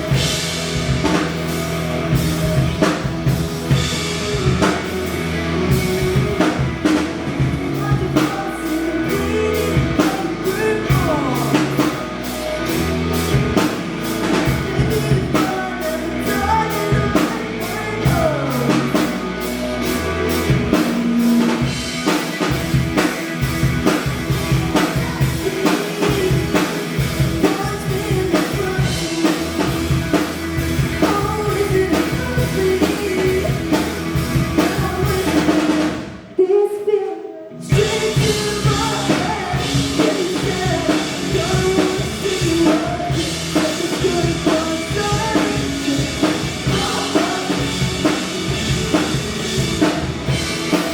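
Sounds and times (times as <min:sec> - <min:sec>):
drum kit beat: 0:00.0 - 0:36.2, 0:37.6 - 0:50.9
rock band playing: 0:00.0 - 0:36.4, 0:37.5 - 0:50.9
person singing: 0:02.0 - 0:50.9.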